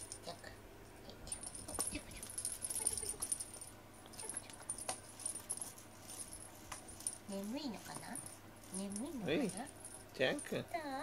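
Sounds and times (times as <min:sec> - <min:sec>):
cat wand toy jingling rattles: 0:01.3 - 0:10.7.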